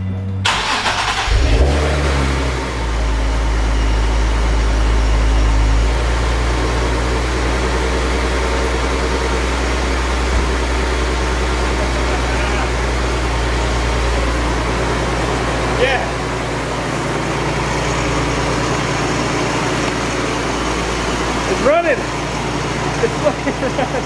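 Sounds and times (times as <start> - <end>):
car engine starting and idling: 0.0 - 24.0.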